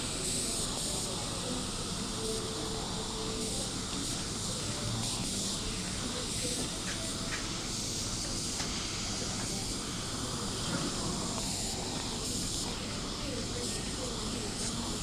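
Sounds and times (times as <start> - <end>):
air hissing through oxygen cannula: 0.0 - 15.0.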